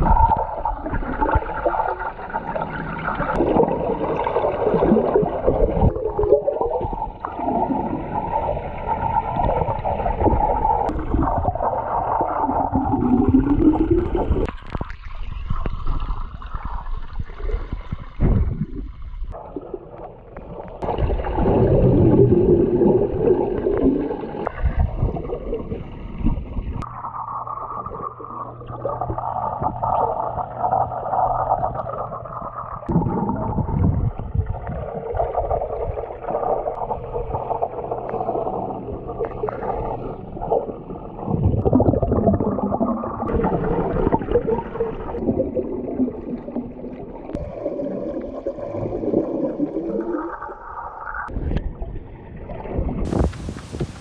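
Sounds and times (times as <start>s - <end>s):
muffled water movement: 0.0s - 54.0s
underwater bubbles gurgling: 0.0s - 54.0s.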